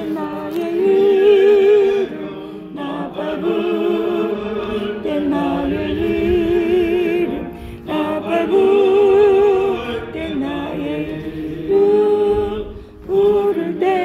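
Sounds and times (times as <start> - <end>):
person singing a hymn: 0.0 - 14.0.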